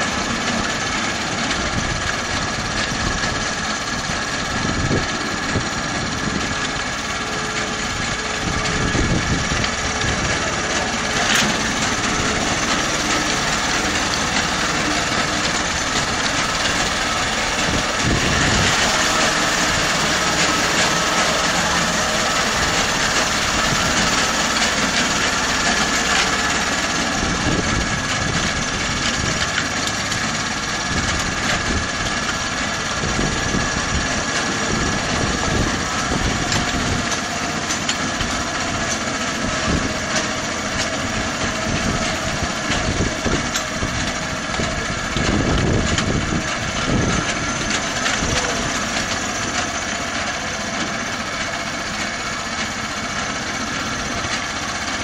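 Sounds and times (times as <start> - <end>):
miniature locomotive engine running: 0.0 - 55.0.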